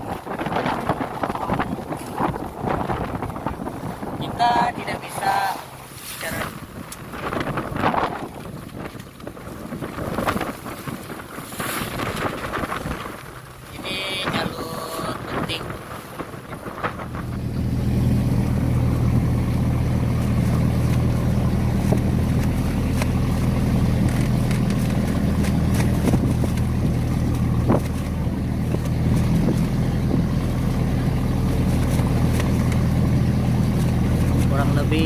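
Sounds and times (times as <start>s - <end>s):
motorboat engine droning: 0.0s - 35.0s.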